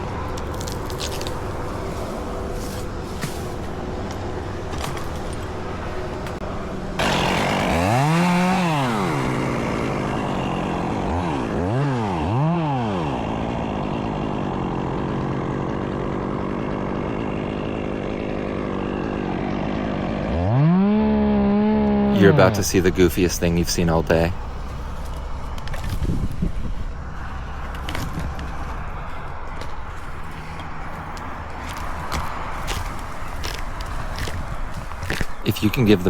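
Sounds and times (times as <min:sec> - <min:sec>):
chainsaw engine revving and idling: 0:00.0 - 0:26.4, 0:29.9 - 0:36.0.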